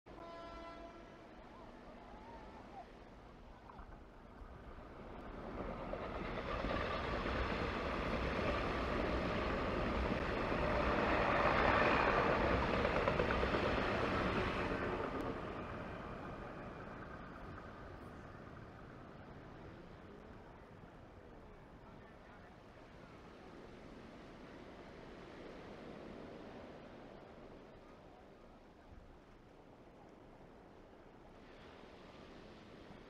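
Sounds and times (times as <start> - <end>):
passenger train passing: 0.1 - 2.8, 4.1 - 28.2.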